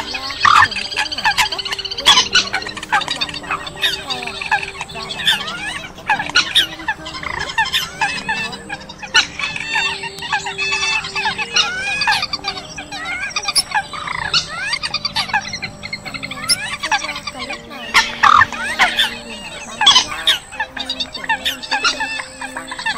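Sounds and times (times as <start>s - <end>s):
chorus of waterbird calls: 0.0s - 22.9s.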